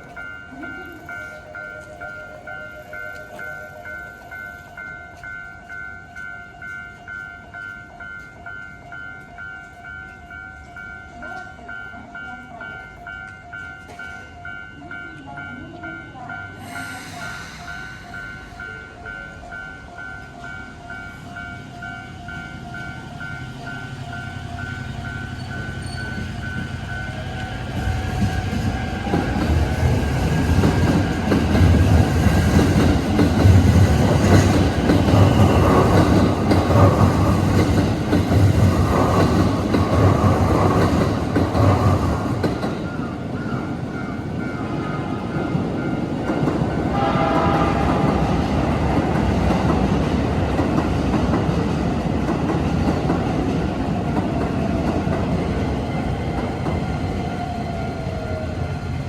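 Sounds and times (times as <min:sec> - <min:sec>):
level-crossing warning bell: 0:00.0 - 0:59.0
train rumble: 0:00.0 - 0:59.0.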